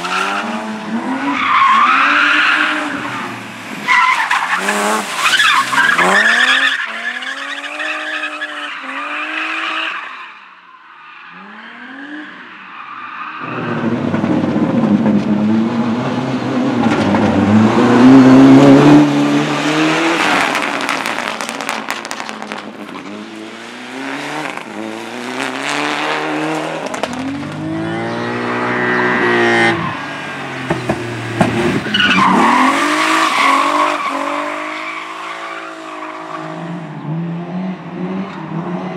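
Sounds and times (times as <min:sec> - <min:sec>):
race car engines revving: 0:00.0 - 0:10.1, 0:11.2 - 0:38.9.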